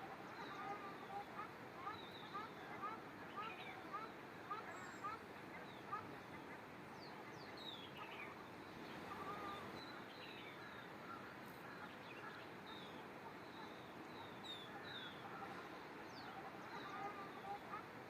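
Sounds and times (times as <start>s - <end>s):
birds chirping: 0.0s - 18.0s
steady background hiss: 0.0s - 18.0s.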